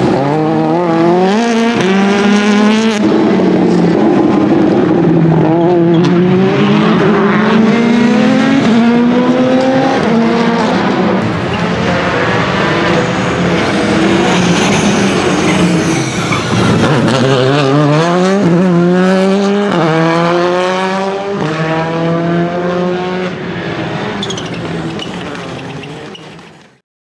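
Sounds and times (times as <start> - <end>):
rally car engine accelerating: 0.0 - 26.7.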